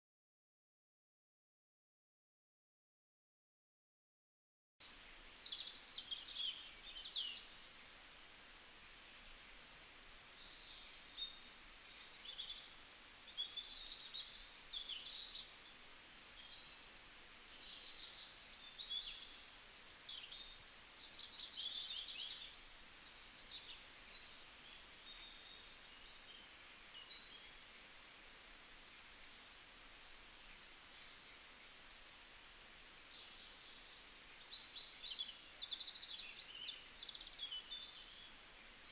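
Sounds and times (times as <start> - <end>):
faint steady hiss: 4.8 - 38.9
small birds chirping: 4.8 - 38.9.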